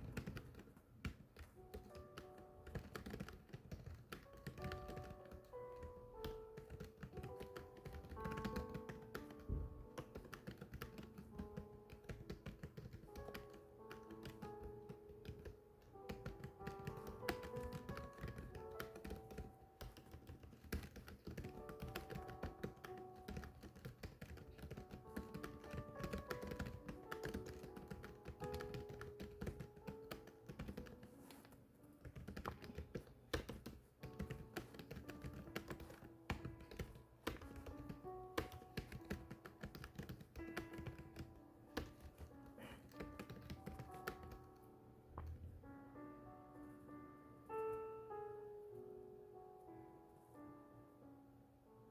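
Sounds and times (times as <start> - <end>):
fast typing on keyboard: 0.0 - 31.2, 32.0 - 44.5
slow background music: 0.0 - 51.9.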